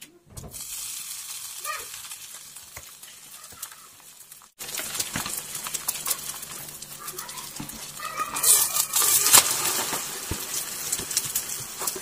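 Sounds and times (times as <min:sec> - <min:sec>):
eggs sizzling in hot oil: 0:00.5 - 0:12.0.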